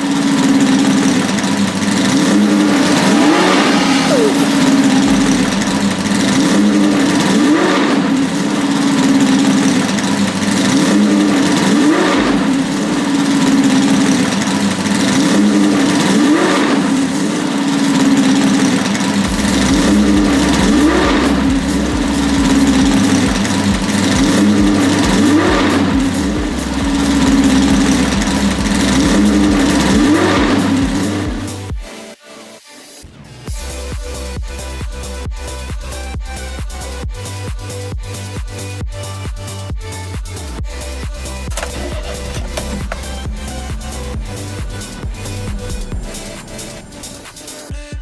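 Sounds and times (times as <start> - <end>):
car engine revving: 0.0 - 31.8, 40.4 - 47.8
electronic bass beat: 1.3 - 17.0, 19.1 - 32.0, 33.5 - 48.0.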